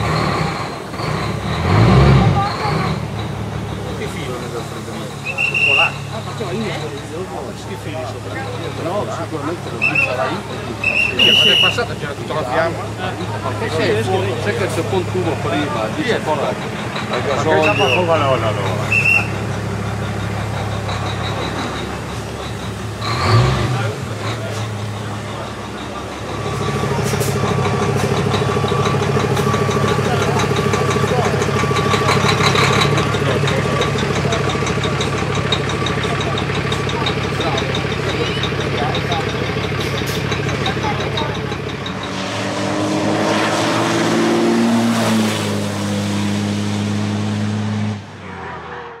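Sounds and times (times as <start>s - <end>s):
engine idling: 0.0s - 42.2s.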